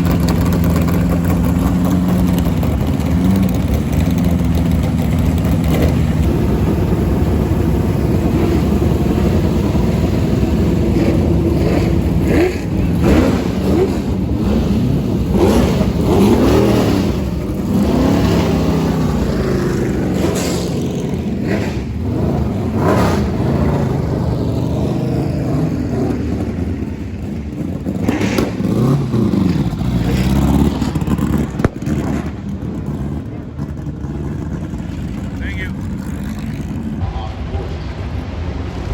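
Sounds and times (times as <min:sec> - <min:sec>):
race car engines idling and revving: 0:00.0 - 0:38.9.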